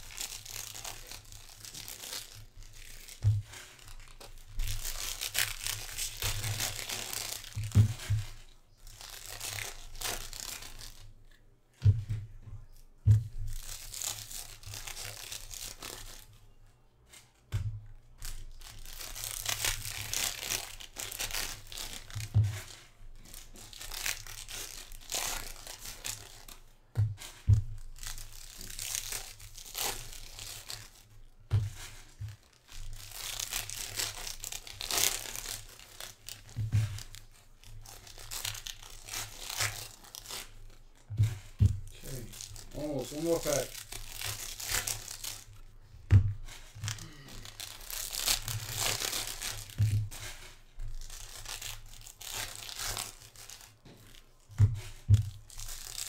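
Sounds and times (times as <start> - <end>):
foil wrappers tearing and crinkling: 0.0 - 11.4, 13.2 - 16.4, 18.1 - 56.0.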